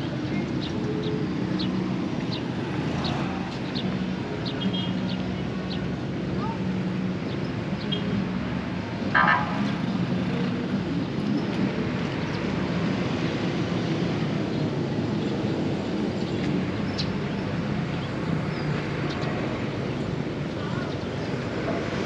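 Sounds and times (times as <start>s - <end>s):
road traffic engine hum: 0.0s - 22.0s.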